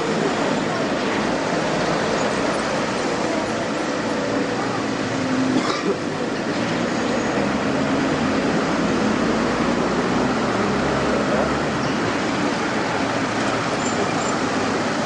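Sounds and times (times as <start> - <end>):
diesel machinery running: 0.0 - 15.0.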